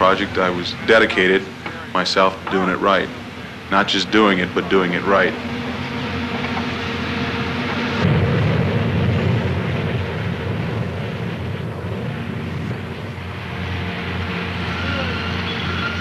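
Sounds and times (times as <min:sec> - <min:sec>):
loud low rumble: 0:00.0 - 0:16.0
machinery engine drone: 0:00.0 - 0:16.0.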